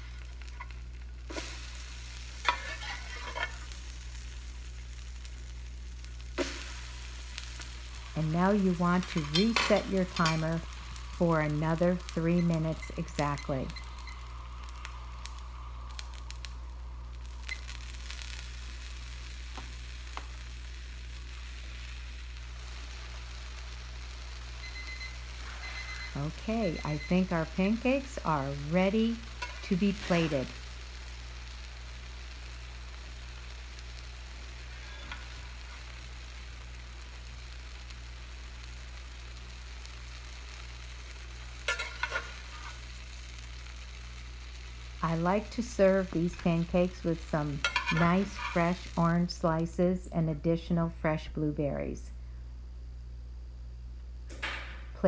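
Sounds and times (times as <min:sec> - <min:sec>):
pancakes sizzling on griddle: 0:00.0 - 0:49.6
low hum: 0:00.0 - 0:55.0.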